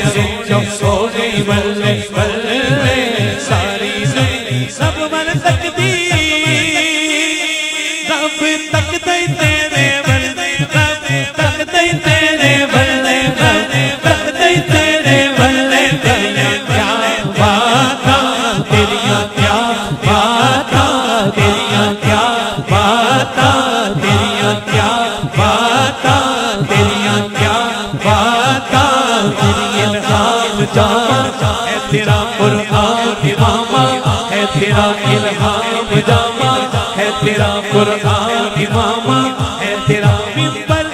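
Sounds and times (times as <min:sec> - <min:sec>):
man singing into microphone: 0:00.0 - 0:40.9.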